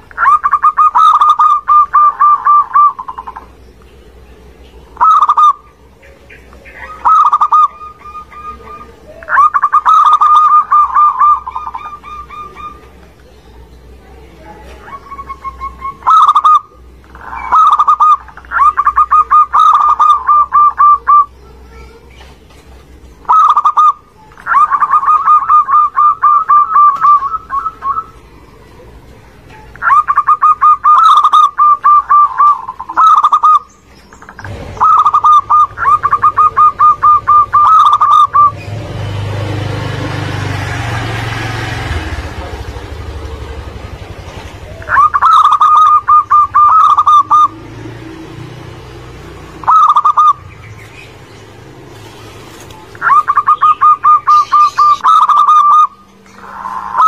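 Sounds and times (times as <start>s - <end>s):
dove cooing: 0.0s - 3.6s, 4.2s - 22.1s, 23.1s - 57.0s.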